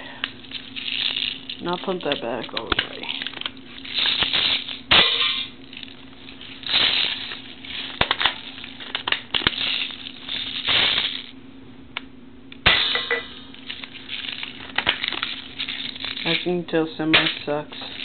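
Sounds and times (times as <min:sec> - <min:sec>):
pellets striking metal can: 0:00.8 - 0:05.9, 0:06.6 - 0:11.3, 0:12.6 - 0:18.0.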